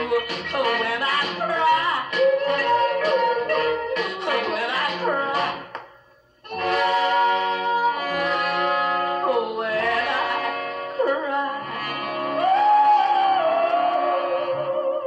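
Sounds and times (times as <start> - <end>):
person singing long sliding notes: 0.0 - 5.6, 6.5 - 15.0
old pop record on a jukebox: 0.0 - 5.8, 6.4 - 15.0.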